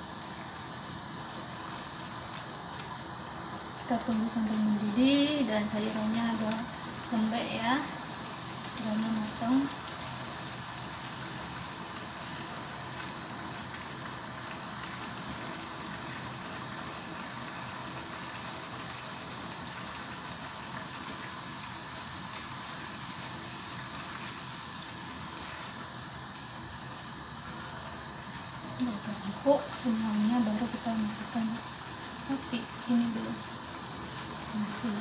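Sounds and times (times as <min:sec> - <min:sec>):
vegetables simmering and sizzling: 0:00.0 - 0:35.0.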